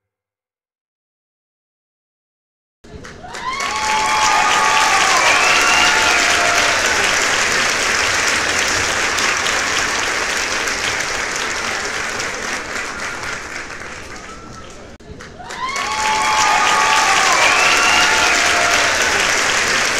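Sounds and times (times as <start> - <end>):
crowd applauding: 2.9 - 19.9.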